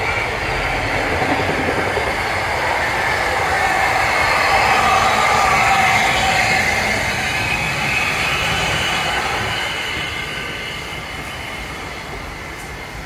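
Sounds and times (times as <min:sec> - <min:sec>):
steam train rolling past: 0:00.0 - 0:13.0.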